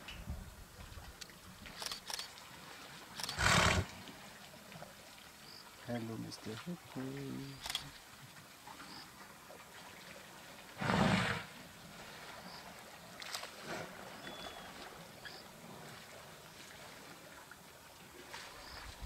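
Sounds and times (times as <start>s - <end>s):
elephants splashing water: 0.9s - 19.0s.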